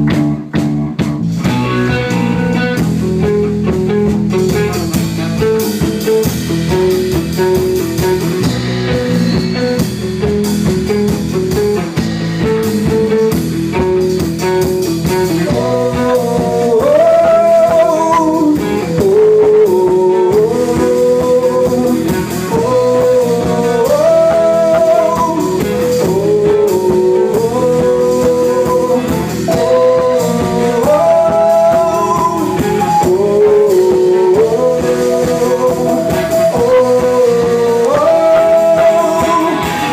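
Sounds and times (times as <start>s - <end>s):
blues band with guitar: 0.0s - 39.9s
lead guitar with bent notes: 0.0s - 39.9s.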